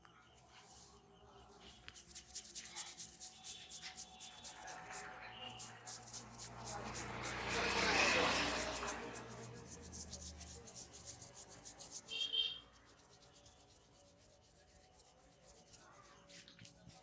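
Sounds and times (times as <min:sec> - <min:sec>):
hands rubbing hair: 0:01.6 - 0:17.0.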